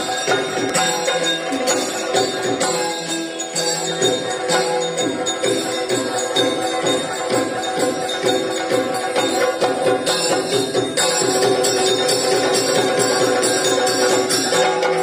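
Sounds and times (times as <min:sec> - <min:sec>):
ankle bells jingling: 0:00.0 - 0:15.0.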